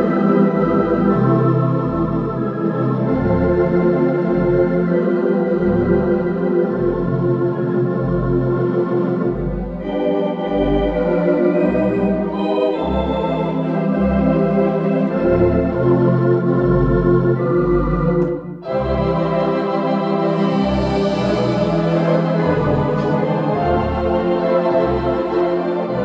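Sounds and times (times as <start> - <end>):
theatre organ chords: 0.0 - 26.0.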